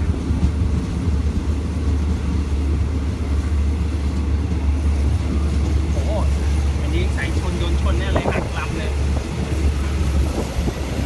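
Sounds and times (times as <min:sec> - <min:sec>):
moving train rumble: 0:00.0 - 0:11.0.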